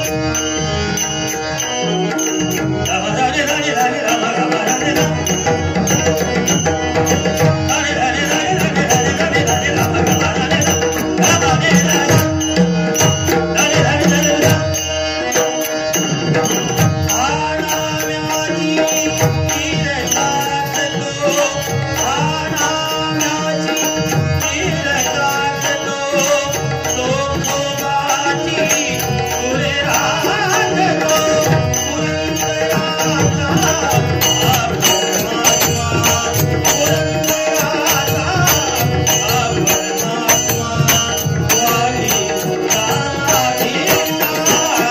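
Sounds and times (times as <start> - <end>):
harmonium tones: 0.0 - 44.9
man singing: 0.0 - 44.9.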